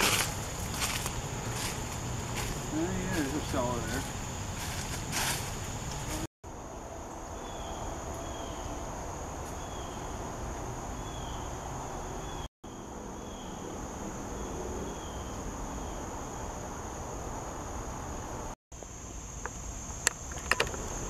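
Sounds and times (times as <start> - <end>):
crickets droning: 0.0 - 21.0.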